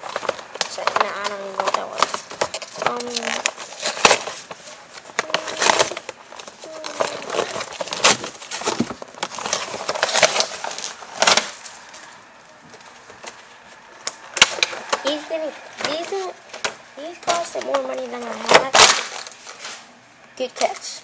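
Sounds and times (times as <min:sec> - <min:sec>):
plastic packaging crackling: 0:00.0 - 0:21.0.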